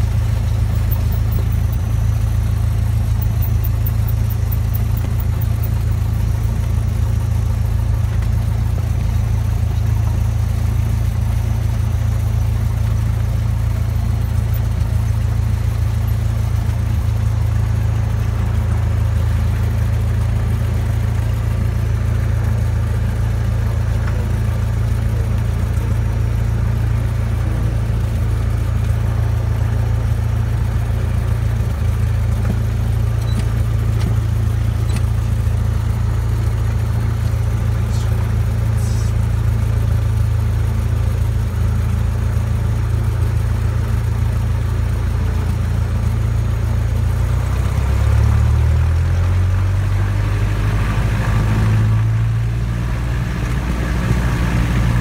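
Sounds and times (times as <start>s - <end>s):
propeller aircraft engine droning: 0.0s - 55.0s.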